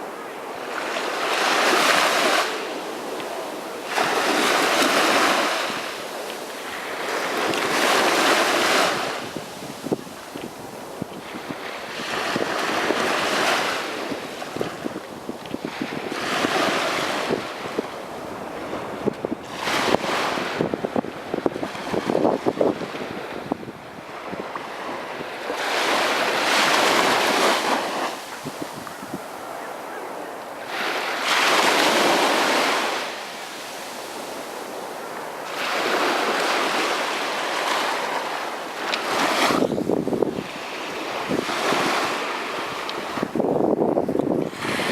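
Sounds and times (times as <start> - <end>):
crackling fizz of surf: 0.0 - 44.9
sea waves breaking on beach: 0.0 - 44.9.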